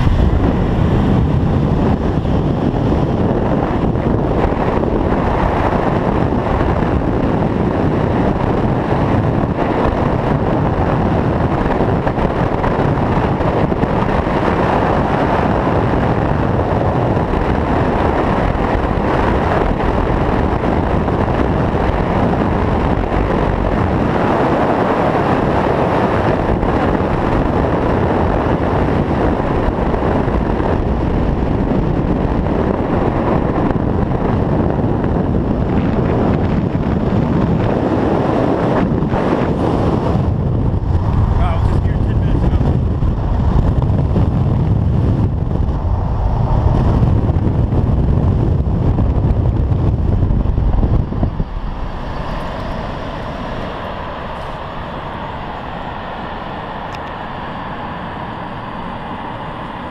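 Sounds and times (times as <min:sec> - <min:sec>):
vehicle road noise: 0:00.0 - 0:59.9
wind rushing on microphone: 0:00.0 - 0:59.9.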